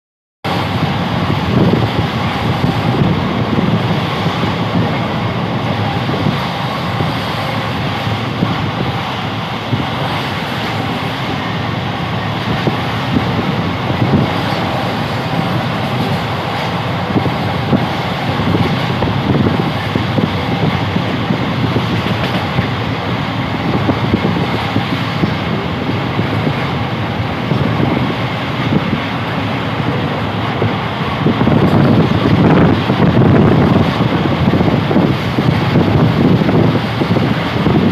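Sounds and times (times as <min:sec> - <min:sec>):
moving passenger train: 0:00.4 - 0:37.9.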